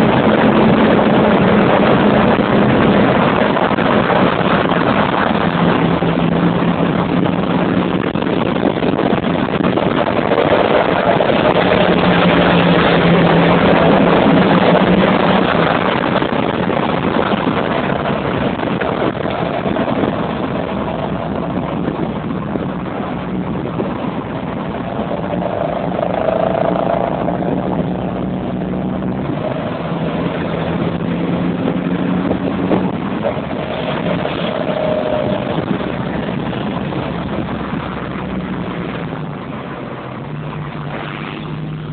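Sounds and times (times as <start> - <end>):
car exhaust drone: 0.0 - 41.9
road and wind noise: 0.0 - 41.9.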